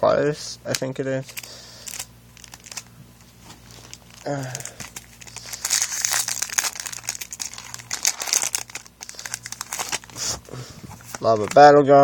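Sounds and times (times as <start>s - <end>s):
foil wrapper crinkling: 0.7s - 11.8s.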